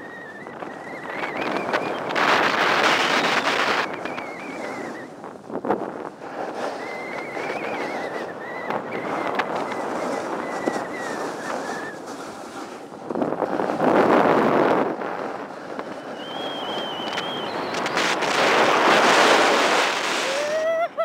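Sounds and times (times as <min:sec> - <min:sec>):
wind rushing over microphone: 0:00.0 - 0:21.0
skis scraping on packed snow: 0:00.8 - 0:20.7.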